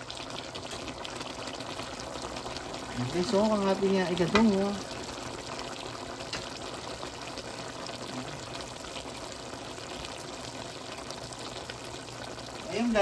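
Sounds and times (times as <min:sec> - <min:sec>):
stew boiling in a pan: 0:00.0 - 0:13.0.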